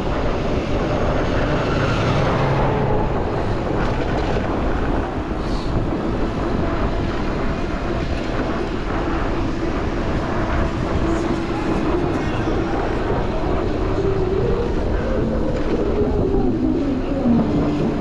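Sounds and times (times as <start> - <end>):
rumble on microphone: 0.0 - 18.0
street traffic: 0.0 - 18.0
wavering hum: 0.0 - 18.0.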